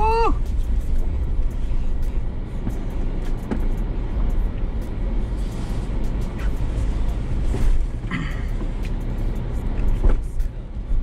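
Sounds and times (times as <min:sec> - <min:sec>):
engine and drivetrain rumble: 0:00.0 - 0:11.0.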